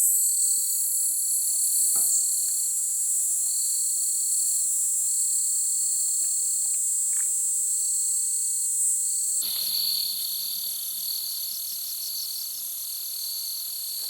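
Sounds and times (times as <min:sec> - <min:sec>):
insects buzzing high-pitched: 0:00.0 - 0:14.0
lower insect chirring: 0:00.0 - 0:14.0.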